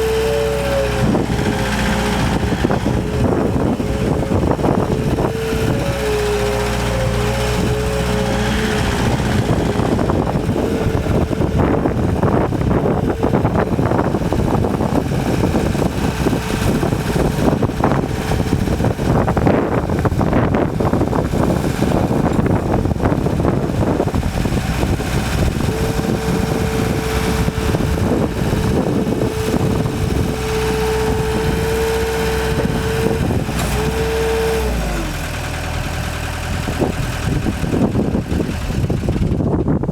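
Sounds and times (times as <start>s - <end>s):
diesel engine rumble: 0.0s - 39.9s
steady engine whine: 0.0s - 39.9s.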